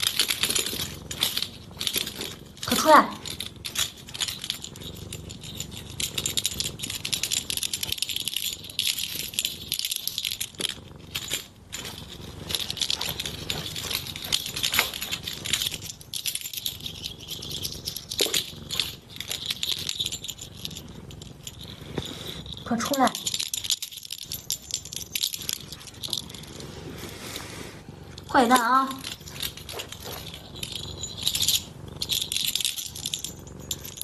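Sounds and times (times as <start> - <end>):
small hard objects rattling: 0.0 - 26.8, 28.1 - 34.0.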